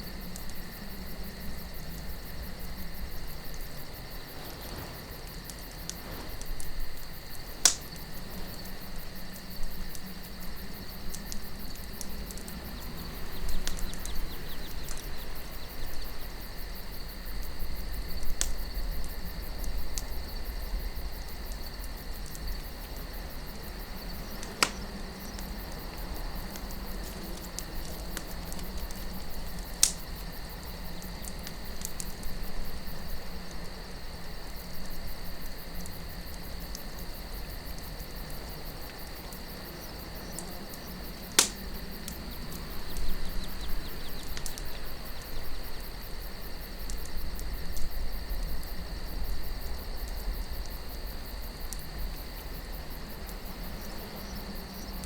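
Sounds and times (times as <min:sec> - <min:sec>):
burning wood popping: 0:00.0 - 0:55.0
campfire crackling: 0:00.0 - 0:55.0
crickets chirring: 0:00.0 - 0:55.0
low wind rumble: 0:00.0 - 0:55.0.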